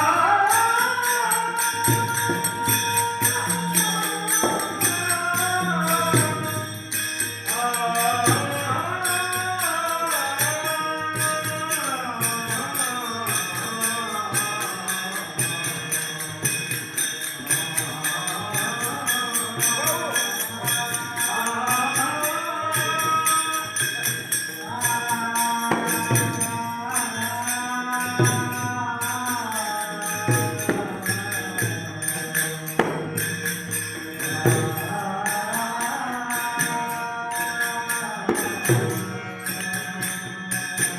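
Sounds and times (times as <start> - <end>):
metallic jingling percussion: 0.0 - 40.9
person singing devotional song: 0.0 - 40.9.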